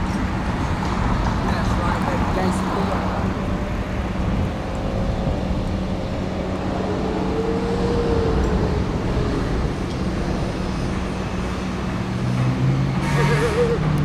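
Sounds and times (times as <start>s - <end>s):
low engine hum: 0.0s - 14.0s
road traffic rumble: 0.0s - 14.0s.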